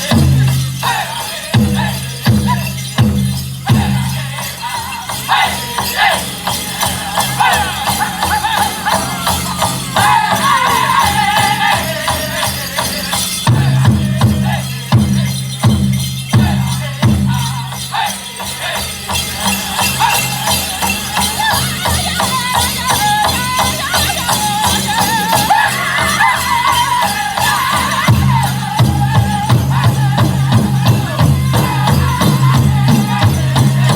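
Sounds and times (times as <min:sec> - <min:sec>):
group singing in high wavering voices: 0:00.0 - 0:33.9
jingling bells: 0:00.0 - 0:33.9
steady drum beat: 0:00.0 - 0:33.9.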